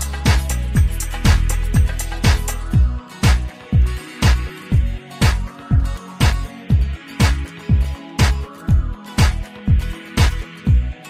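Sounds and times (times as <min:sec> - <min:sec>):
upbeat funk disco music: 0:00.0 - 0:11.0.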